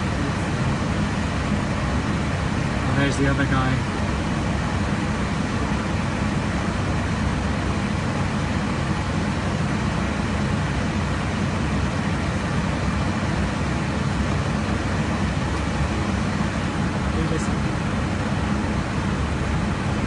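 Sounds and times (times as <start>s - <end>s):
jet aircraft cabin rumble: 0.0s - 20.0s.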